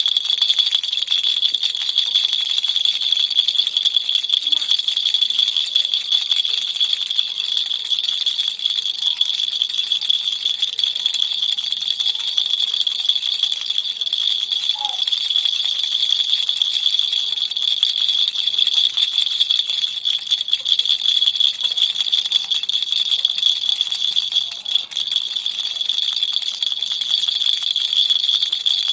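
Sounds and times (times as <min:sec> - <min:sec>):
baby rattle shaking: 0:00.0 - 0:28.9.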